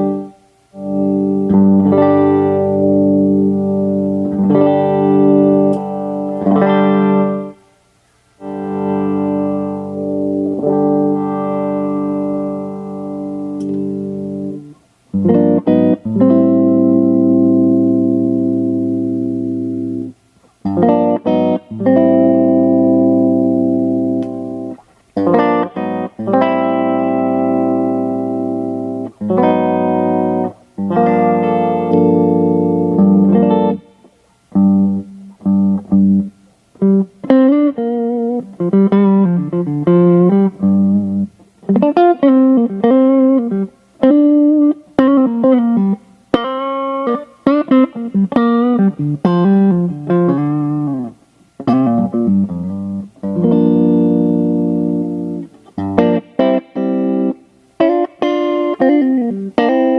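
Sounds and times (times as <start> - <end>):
guitar strummed chords: 0.0 - 59.9.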